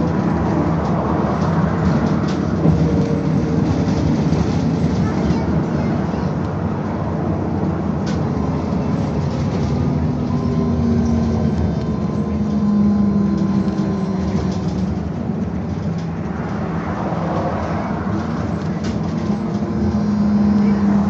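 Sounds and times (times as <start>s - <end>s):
road rumble inside bus: 0.0s - 21.0s.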